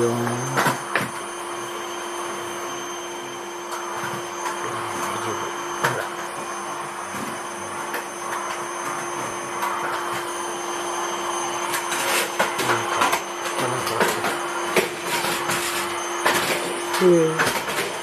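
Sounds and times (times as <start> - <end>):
vacuum cleaner humming: 0.0 - 18.0.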